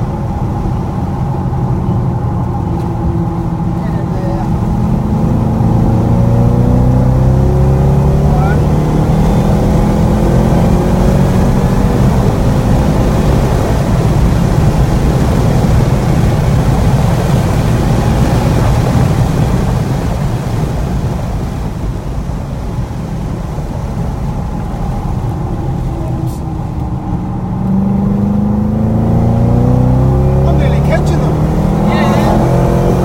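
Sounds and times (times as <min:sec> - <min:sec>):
car engine accelerating hard: 0:00.0 - 0:33.0
road and wind roar: 0:00.0 - 0:33.0.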